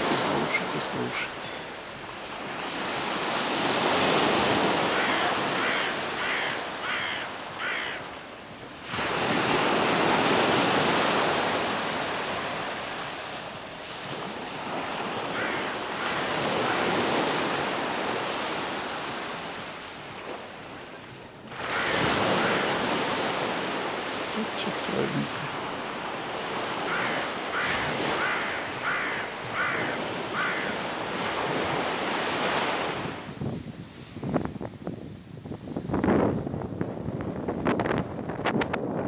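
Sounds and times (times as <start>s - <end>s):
sea waves breaking: 0.0s - 33.4s.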